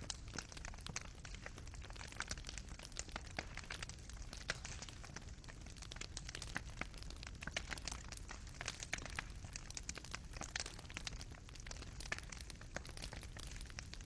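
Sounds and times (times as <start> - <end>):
coals popping and snapping: 0.0 - 14.0
low fire rumble: 0.0 - 14.0.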